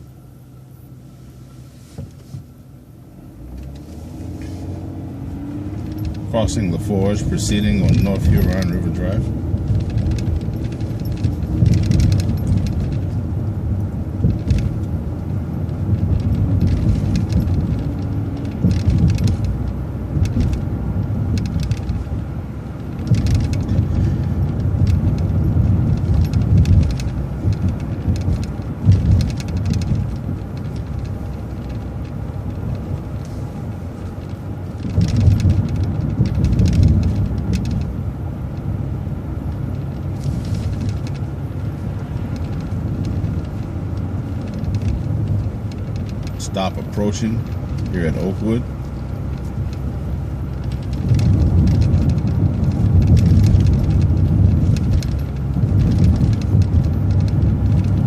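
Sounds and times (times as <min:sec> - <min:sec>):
bus engine and road rumble: 0:00.0 - 0:58.0
bus body rattling: 0:03.4 - 0:58.0.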